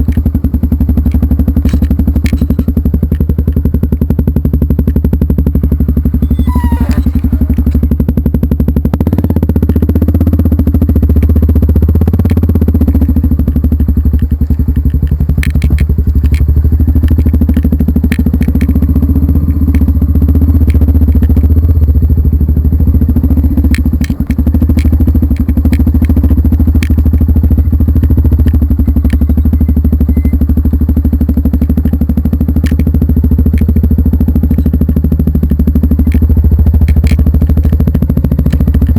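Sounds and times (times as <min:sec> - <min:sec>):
knocks and rattles: 0:00.0 - 0:30.0, 0:30.8 - 0:38.9
vehicle engine droning: 0:00.0 - 0:38.9.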